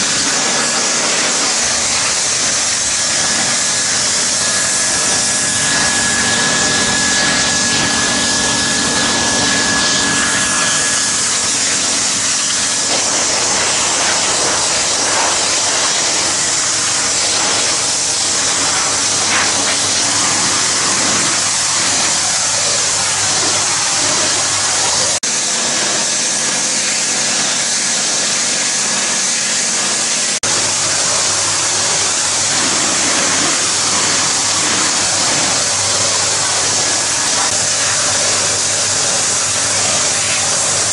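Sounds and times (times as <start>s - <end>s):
machine humming: 0.0s - 27.8s, 30.3s - 40.9s
pressure washer spray hissing: 0.0s - 40.9s.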